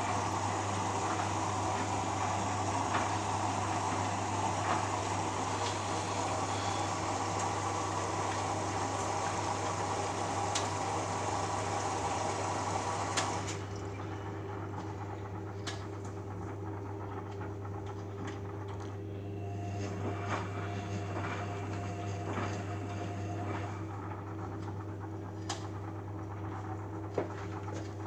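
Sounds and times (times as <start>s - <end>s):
washing machine humming: 0.0s - 28.0s
water rushing into washing machine: 0.0s - 28.0s.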